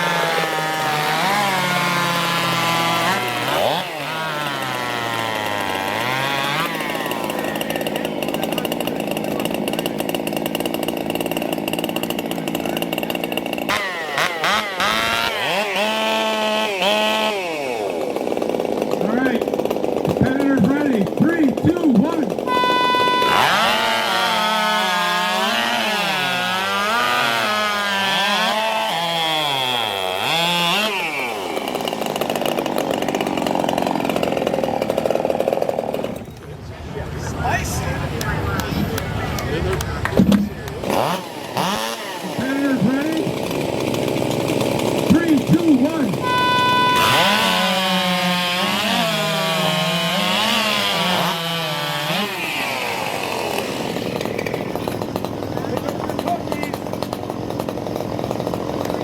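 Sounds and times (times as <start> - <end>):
chainsaw engine revving and cutting: 0.0 - 36.4, 38.2 - 59.0.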